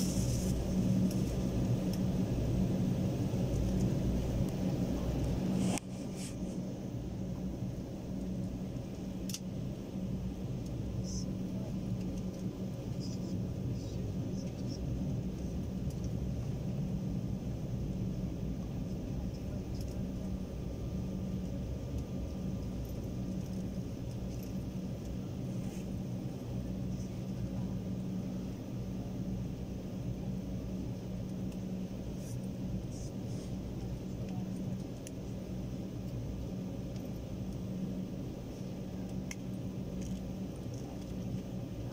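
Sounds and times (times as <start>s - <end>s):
faint thin whine: 0.0s - 41.9s
jet engines idling: 0.0s - 41.9s.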